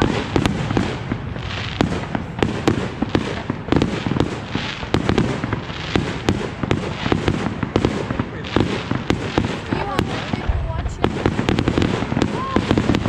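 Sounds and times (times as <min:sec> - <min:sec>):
firework cracks and bangs: 0:00.0 - 0:13.0
fireworks rumbling: 0:00.0 - 0:13.0.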